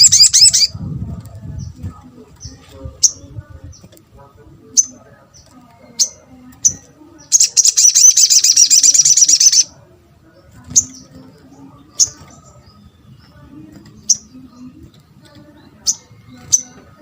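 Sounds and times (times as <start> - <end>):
bird chirping and trilling: 0.0 - 4.0, 4.6 - 17.0.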